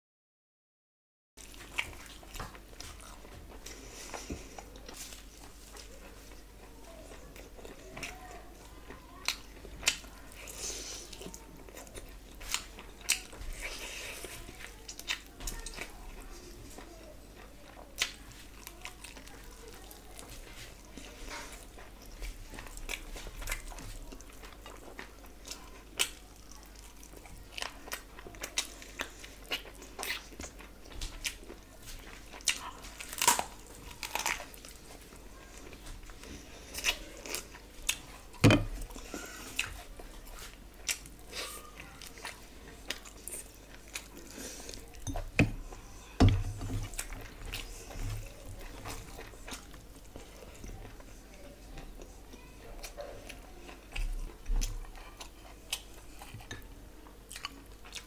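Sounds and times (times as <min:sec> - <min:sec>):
wet chewing with crunches: 0:01.4 - 0:58.0.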